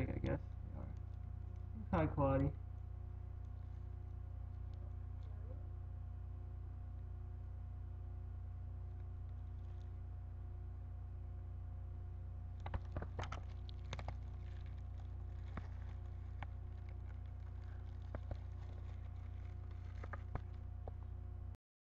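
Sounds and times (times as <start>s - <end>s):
steady electrical hum: 0.0s - 21.6s.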